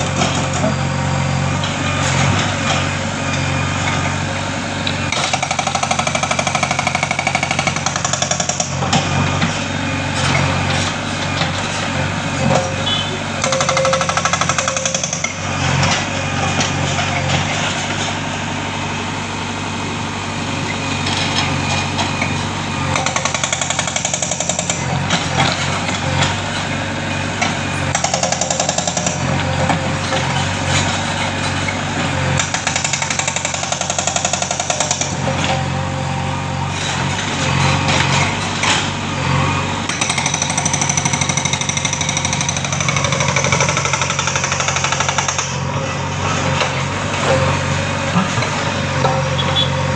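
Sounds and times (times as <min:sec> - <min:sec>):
diesel engine drone: 0:00.0 - 0:49.9
hydraulic rock breaker hammering: 0:01.5 - 0:19.0, 0:21.0 - 0:35.9, 0:39.8 - 0:49.9.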